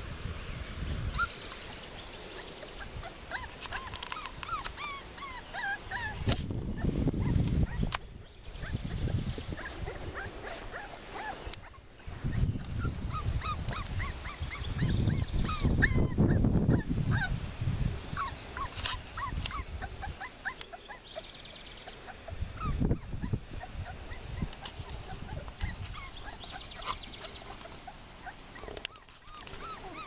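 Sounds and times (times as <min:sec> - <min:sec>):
puppies yipping and whimpering: 0:01.1 - 0:17.4, 0:18.1 - 0:30.0.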